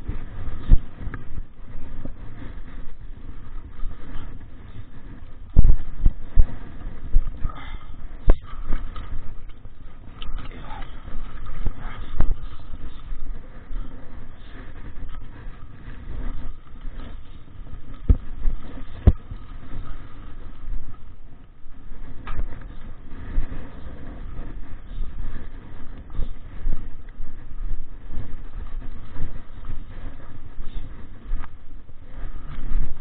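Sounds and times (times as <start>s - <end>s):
mountain bike rumbling on dirt trail: 0.0s - 33.0s.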